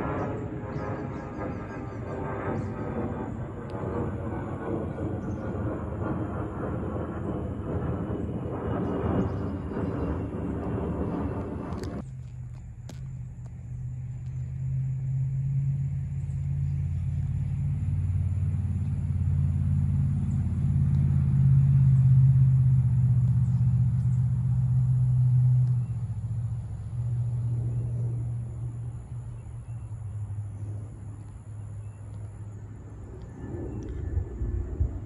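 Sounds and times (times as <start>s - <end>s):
jet airliner engine rumble: 0.0s - 35.0s.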